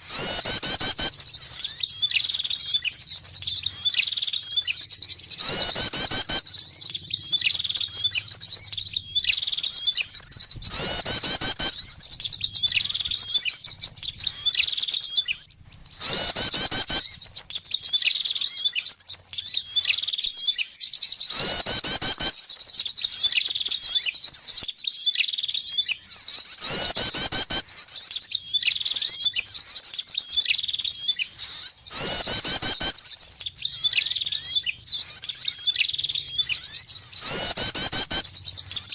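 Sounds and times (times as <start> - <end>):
loud sweeping bird call: 0.0 - 38.9
songbirds chirping rapidly: 0.0 - 38.9.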